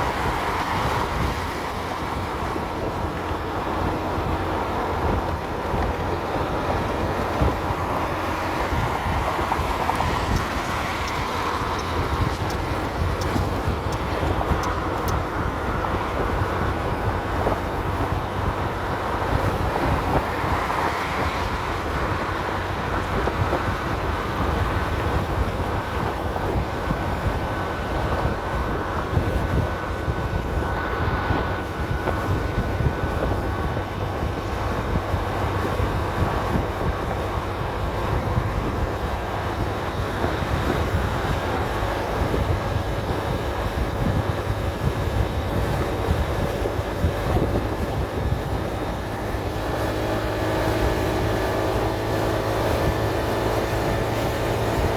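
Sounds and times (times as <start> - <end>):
scooter engine and wind noise: 0.0 - 54.9.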